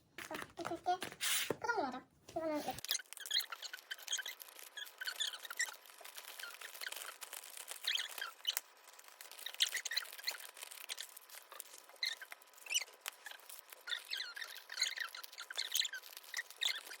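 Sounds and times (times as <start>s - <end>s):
small taps and squeaky rubs: 2.3s - 17.0s
plastic packaging crinkling: 2.8s - 17.0s.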